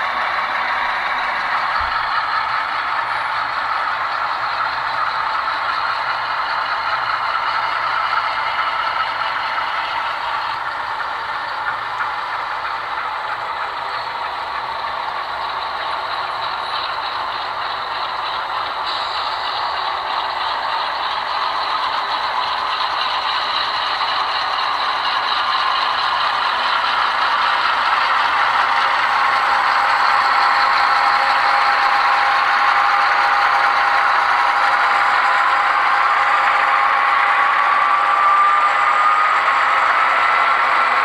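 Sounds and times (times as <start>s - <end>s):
model locomotive engine: 0.0s - 41.0s
wheels rattling on track: 0.0s - 41.0s.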